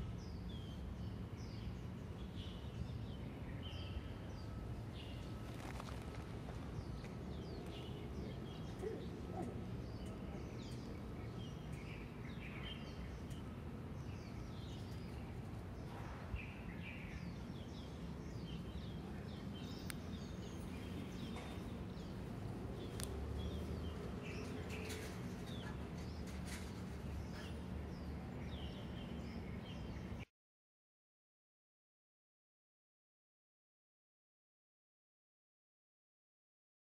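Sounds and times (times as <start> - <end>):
small birds chirping: 0.0 - 30.2.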